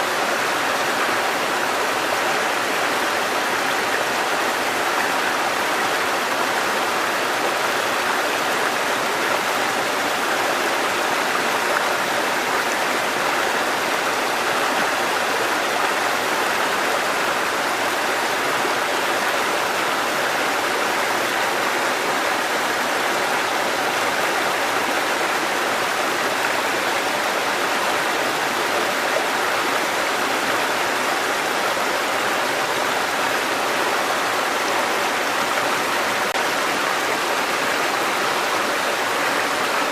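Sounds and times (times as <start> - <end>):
mountain stream water rushing: 0.0 - 39.9.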